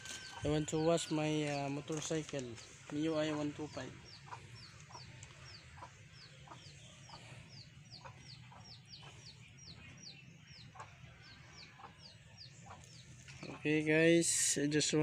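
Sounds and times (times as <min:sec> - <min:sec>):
chicks peeping: 0:00.0 - 0:13.9
chickens clucking: 0:00.0 - 0:14.0.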